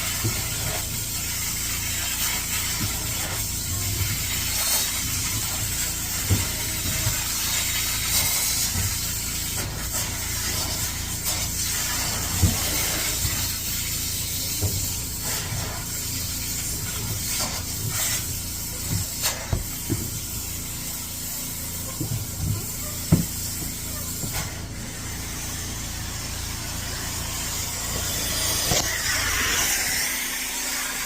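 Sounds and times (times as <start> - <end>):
extraction machine spraying and suction: 0.0 - 31.0.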